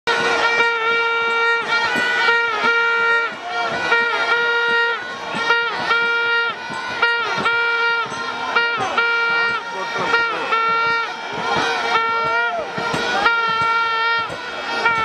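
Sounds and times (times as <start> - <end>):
reedy horn blasts: 0.0 - 15.0.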